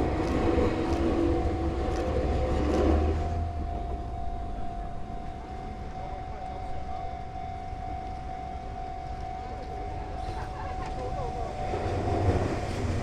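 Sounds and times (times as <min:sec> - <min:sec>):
steady high tone: 0:00.0 - 0:13.0
train rumbling past: 0:00.0 - 0:13.0.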